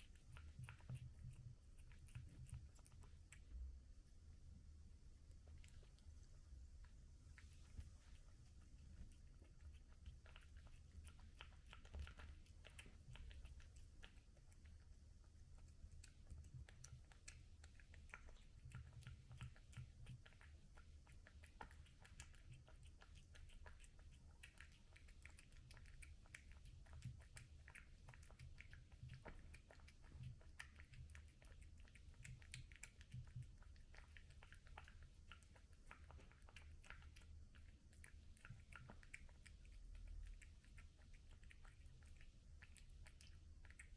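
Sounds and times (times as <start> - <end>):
cat chewing food: 0.0 - 43.9.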